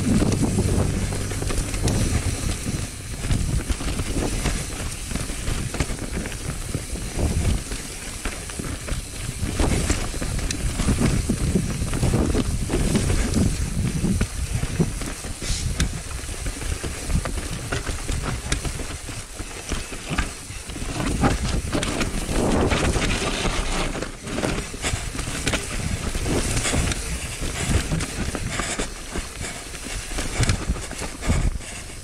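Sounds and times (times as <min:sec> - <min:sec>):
bike clattering over bumps: 0:00.0 - 0:32.0
tyres rolling over leaves and dirt: 0:00.0 - 0:32.0.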